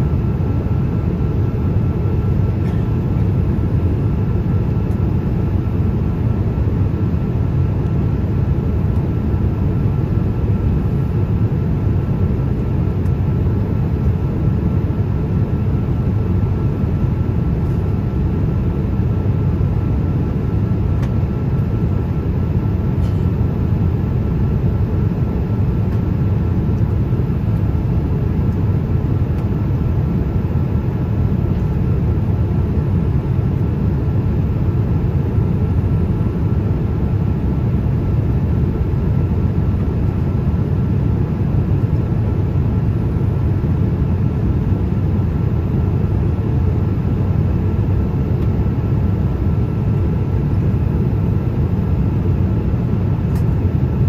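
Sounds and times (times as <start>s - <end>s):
airliner cabin rumble: 0.0s - 54.0s
faint steady whine: 0.0s - 54.0s.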